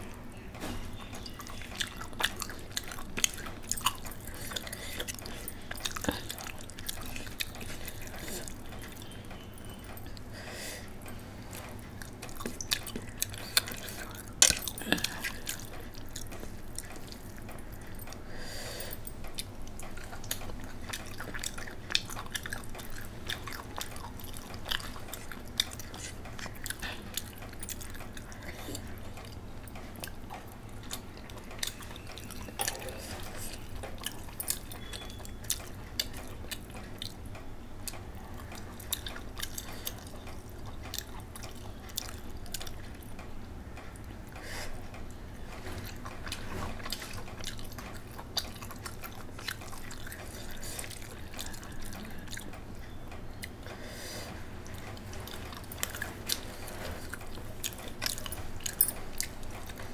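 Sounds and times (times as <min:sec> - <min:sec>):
wet chewing and lip-smacking: 0:00.0 - 0:59.9.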